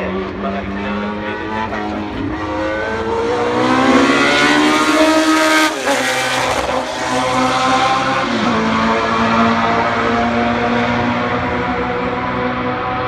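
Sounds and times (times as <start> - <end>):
racing engine at high revs: 0.0 - 13.0.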